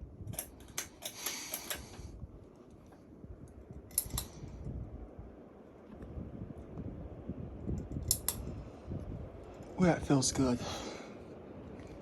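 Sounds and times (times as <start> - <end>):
ceiling fan whooshing air: 0.0 - 12.0.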